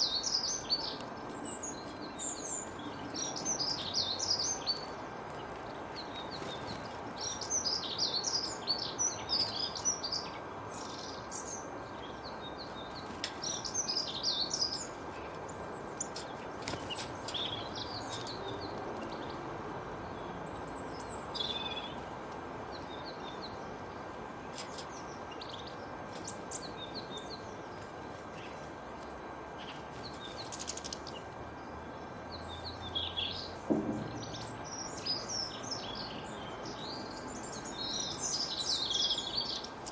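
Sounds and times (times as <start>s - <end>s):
birds chirping and singing: 0.0s - 22.1s, 22.7s - 39.9s.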